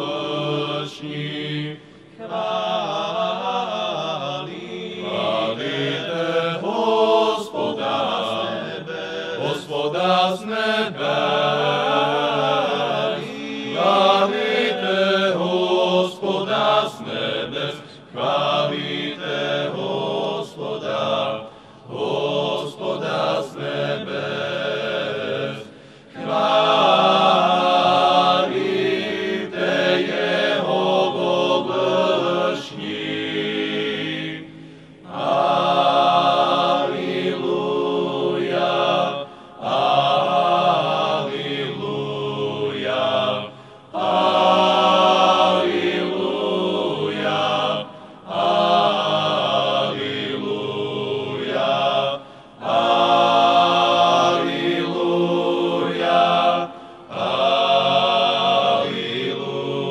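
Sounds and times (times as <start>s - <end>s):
choir singing chant: 0.0s - 59.9s.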